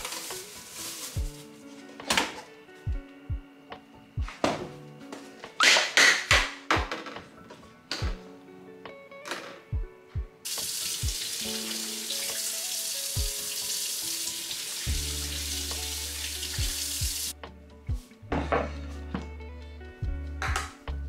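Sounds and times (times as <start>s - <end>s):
quiet background music: 0.0s - 21.0s.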